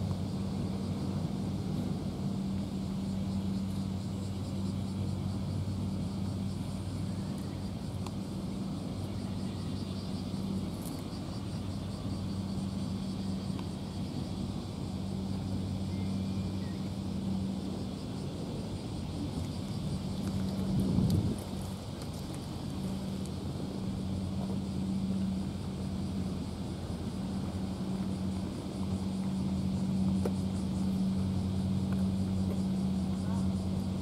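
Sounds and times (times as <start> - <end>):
low mechanical drone: 0.0 - 34.0.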